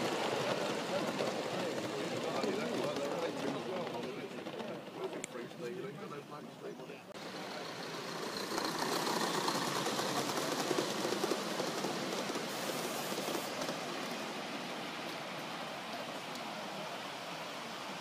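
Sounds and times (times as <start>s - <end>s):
model train wheels on rails: 0.0s - 18.0s.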